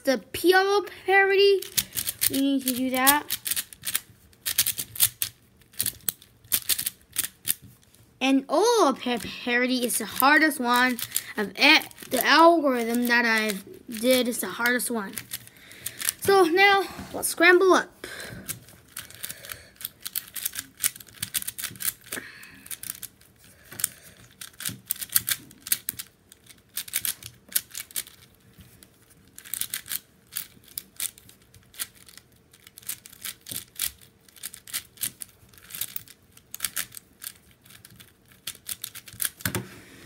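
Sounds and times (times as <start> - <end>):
puzzle cube clicking: 1.6 - 7.9, 9.2 - 16.4, 18.3 - 39.7.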